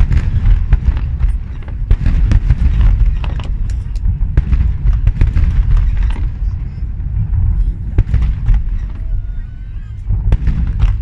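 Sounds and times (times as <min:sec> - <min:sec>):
deep rumble: 0:00.0 - 0:11.0
fireworks bangs and crackles: 0:00.0 - 0:11.0.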